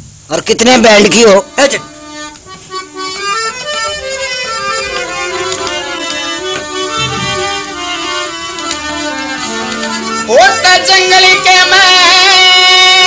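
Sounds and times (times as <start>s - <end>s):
folk melody: 0.7s - 13.0s.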